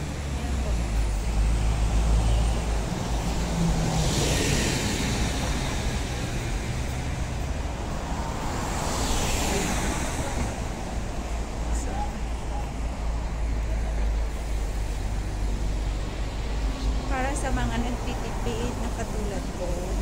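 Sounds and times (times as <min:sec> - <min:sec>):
bus engine rumble: 0:00.0 - 0:20.0
vehicles swishing past: 0:00.0 - 0:20.0.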